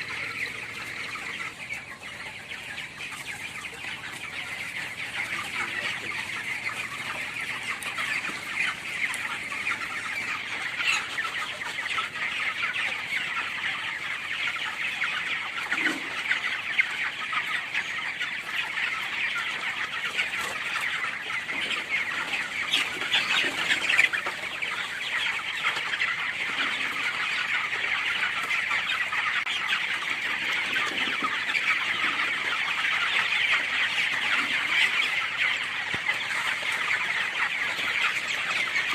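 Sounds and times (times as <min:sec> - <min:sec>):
chickens cheeping and clucking: 0:00.0 - 0:38.9.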